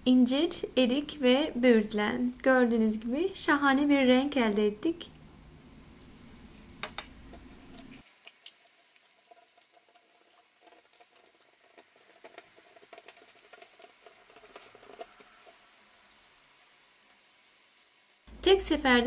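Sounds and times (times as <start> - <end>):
baking paper crackling: 0.4 - 5.1, 7.0 - 19.0.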